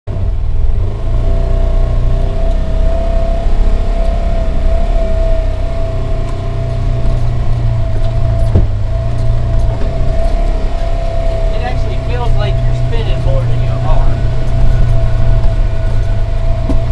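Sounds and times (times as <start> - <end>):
constant whine: 0.1 - 16.9
low engine rumble: 0.1 - 16.9.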